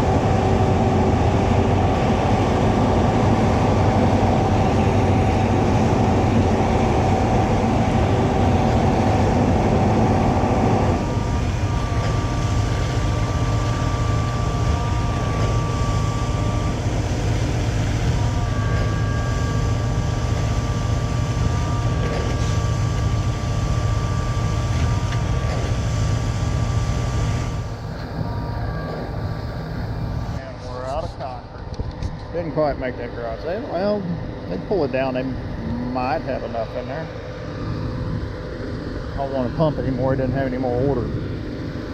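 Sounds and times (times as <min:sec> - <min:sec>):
concrete pump truck drone: 0:00.0 - 0:41.9
thin steady whine: 0:00.0 - 0:41.9.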